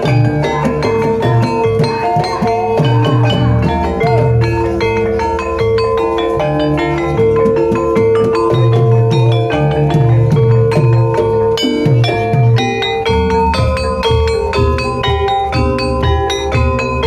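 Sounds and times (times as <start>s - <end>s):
gamelan metallophones and gong-chimes: 0.0s - 17.0s.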